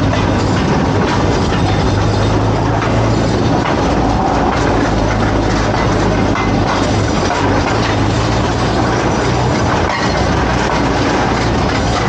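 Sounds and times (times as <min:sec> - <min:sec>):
rail vehicle engine drone: 0:00.0 - 0:12.0
wheels clattering on rails: 0:00.0 - 0:12.0.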